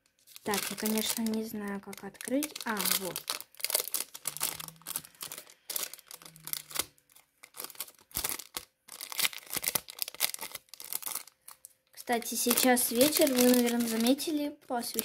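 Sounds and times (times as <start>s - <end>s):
paper bag crinkling and tearing: 0.2s - 15.0s.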